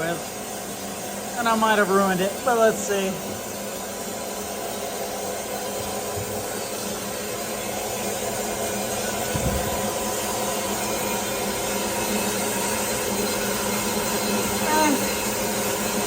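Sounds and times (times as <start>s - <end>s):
shop machinery humming: 0.0s - 16.0s.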